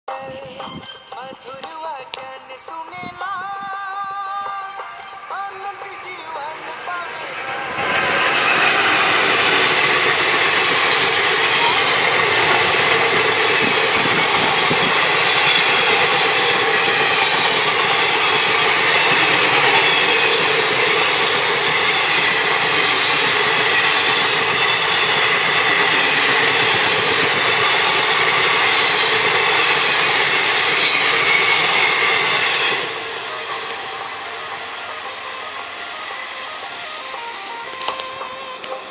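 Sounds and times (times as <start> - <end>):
train wheels running on rails: 0.1 - 38.9.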